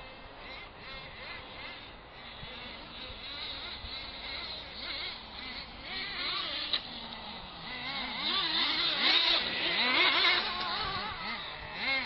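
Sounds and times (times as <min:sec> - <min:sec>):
small engines revving: 0:00.0 - 0:12.0.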